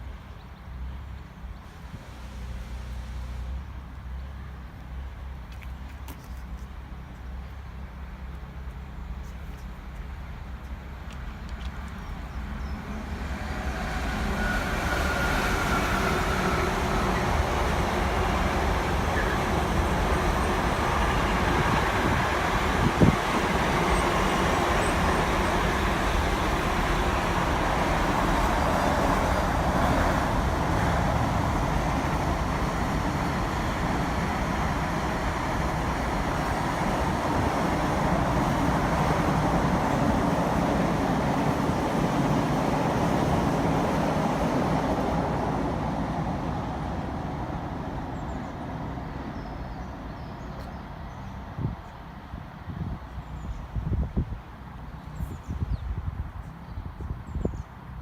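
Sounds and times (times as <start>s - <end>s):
train running past: 7.8s - 55.2s.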